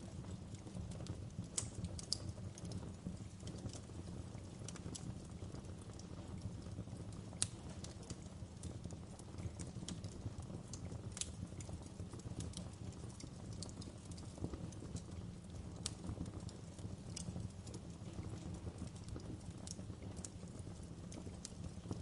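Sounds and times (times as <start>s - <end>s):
fire crackling and popping: 0.0s - 22.0s
low rumble of burning fire: 0.0s - 22.0s.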